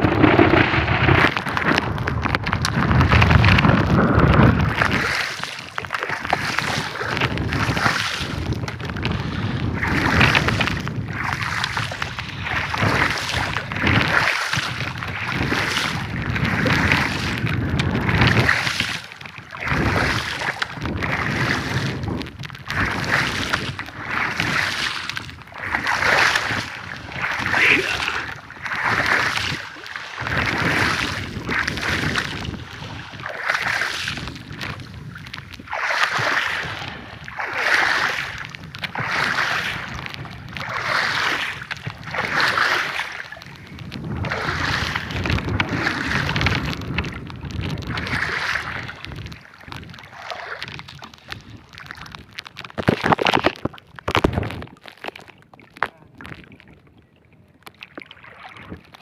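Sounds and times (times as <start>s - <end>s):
water splashing around boat: 0.0s - 59.0s
wind: 0.0s - 59.0s.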